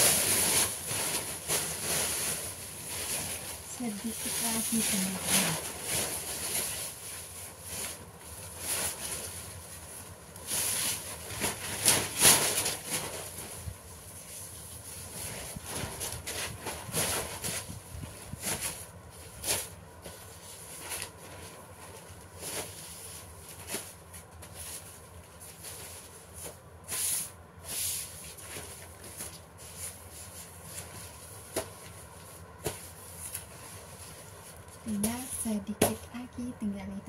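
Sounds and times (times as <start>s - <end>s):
paper rustling and creasing: 0.0s - 35.3s
low steady hum: 0.0s - 37.0s.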